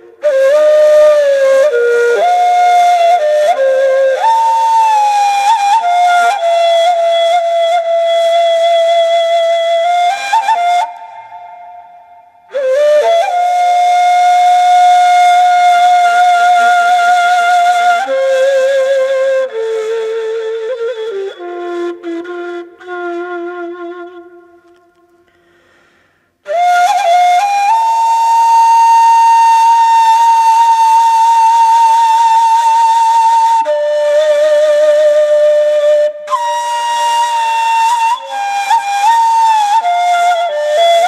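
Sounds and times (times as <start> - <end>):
reed flute solo melody: 0.0 - 25.4, 26.4 - 41.0.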